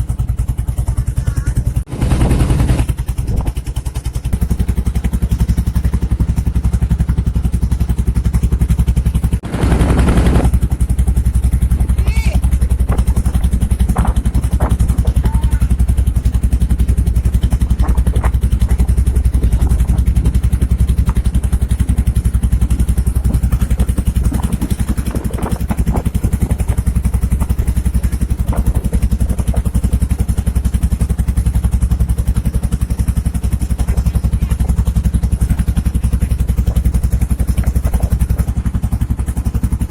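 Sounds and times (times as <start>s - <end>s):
boat motor chugging: 0.0s - 39.9s.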